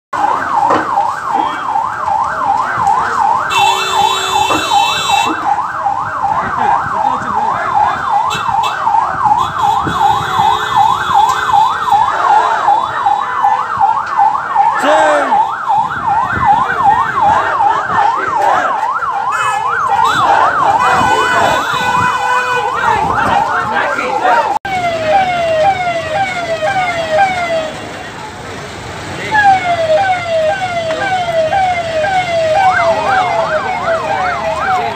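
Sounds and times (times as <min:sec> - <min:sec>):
siren fast yelp: 0:00.2 - 0:23.8, 0:24.7 - 0:27.8, 0:29.3 - 0:34.9.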